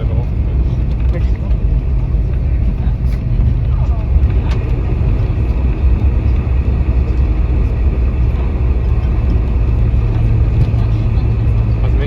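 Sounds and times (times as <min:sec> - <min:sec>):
low hum: 0:00.0 - 0:12.0
rumble of engines and wheels: 0:00.0 - 0:12.0.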